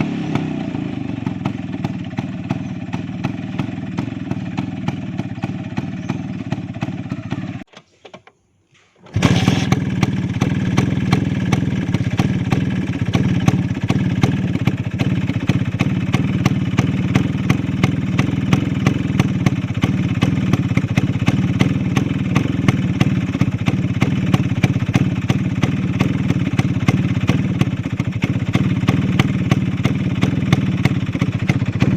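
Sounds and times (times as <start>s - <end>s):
scooter engine idling: 0.0s - 7.7s, 9.1s - 31.9s.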